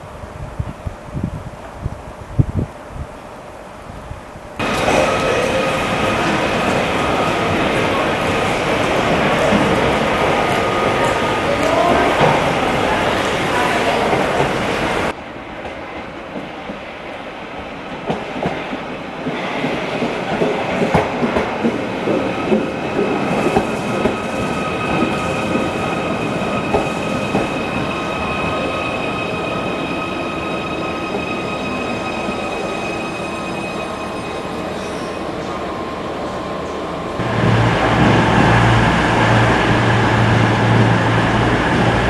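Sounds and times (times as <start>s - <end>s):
train running on rails: 0.0s - 42.0s.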